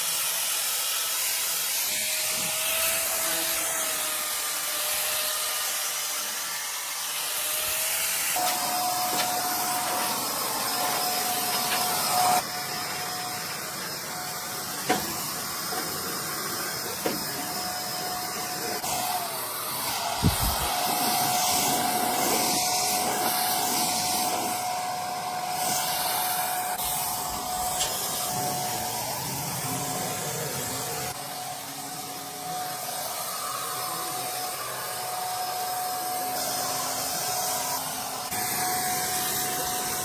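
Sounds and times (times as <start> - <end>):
small motor tool whirring: 0.0 - 40.0.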